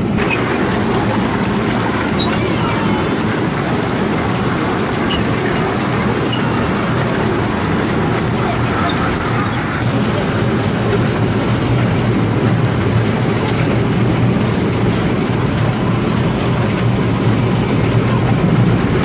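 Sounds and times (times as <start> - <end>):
ride train rumbling on track: 0.0 - 19.0.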